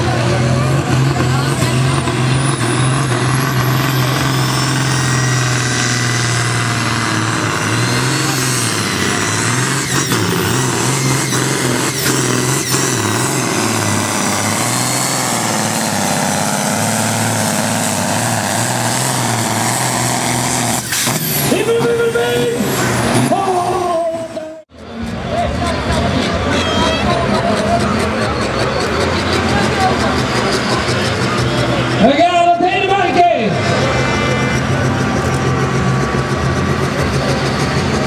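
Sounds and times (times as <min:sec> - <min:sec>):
diesel tractor engine under load: 0:00.0 - 0:38.0.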